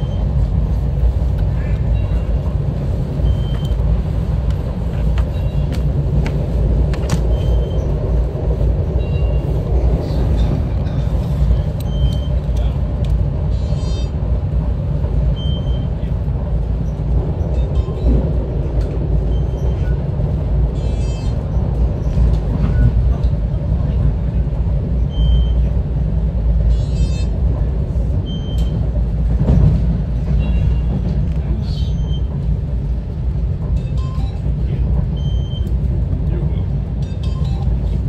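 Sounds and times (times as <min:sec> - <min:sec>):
train running low rumble: 0:00.0 - 0:38.0.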